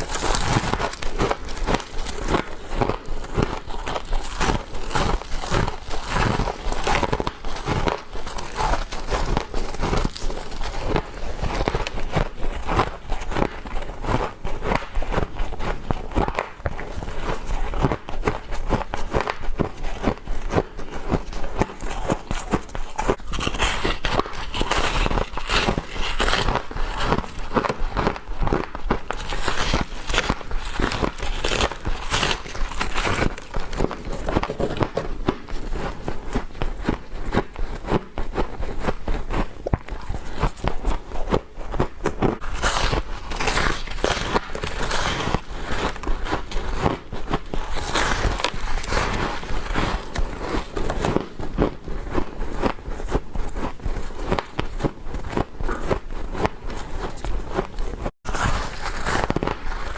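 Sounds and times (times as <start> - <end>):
crunching frost: 0.0 - 59.9.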